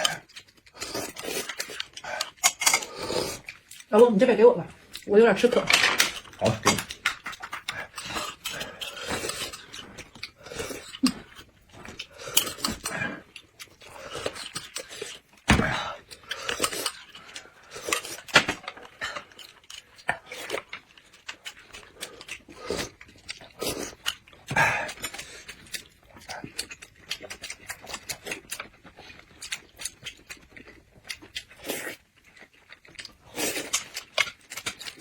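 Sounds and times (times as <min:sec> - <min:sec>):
chewing and biting: 0:00.0 - 0:04.0, 0:06.0 - 0:35.0.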